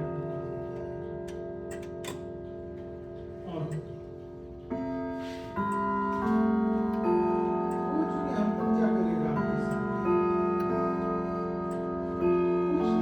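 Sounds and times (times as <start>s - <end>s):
faint clock ticking: 0.0s - 13.0s
grandfather clock chiming a melody: 0.0s - 13.0s.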